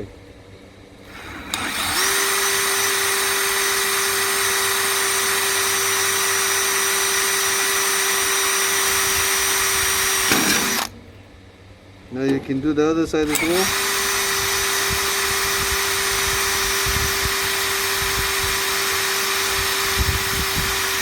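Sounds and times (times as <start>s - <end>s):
electric drill boring through metal: 1.1s - 10.9s, 13.2s - 21.0s.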